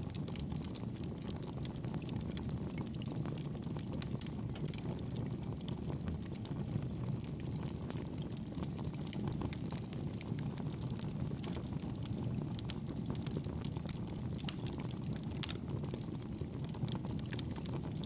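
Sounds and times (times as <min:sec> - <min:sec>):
fire burning in fireplace: 0:00.0 - 0:18.0
fire crackles and pops: 0:00.0 - 0:18.0.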